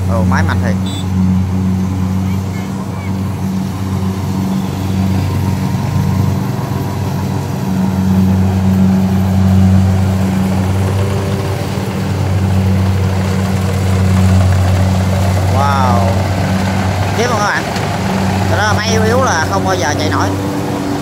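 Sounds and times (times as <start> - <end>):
diesel engine working hard: 0.0 - 21.0.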